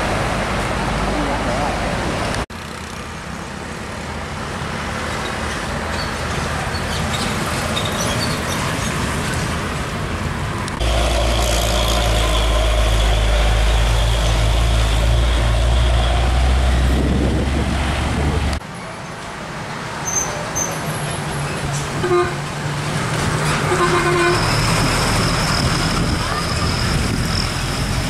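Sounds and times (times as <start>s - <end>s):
road and traffic noise: 0.0s - 28.0s.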